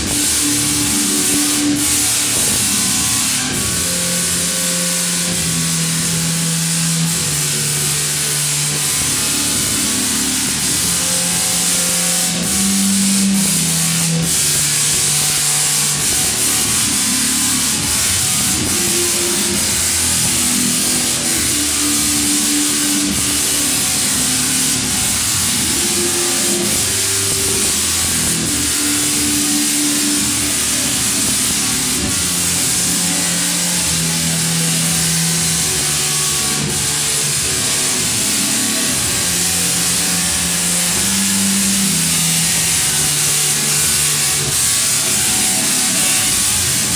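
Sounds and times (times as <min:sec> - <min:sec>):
tesla coil buzzing crackle playing tune: 0:00.0 - 0:46.9.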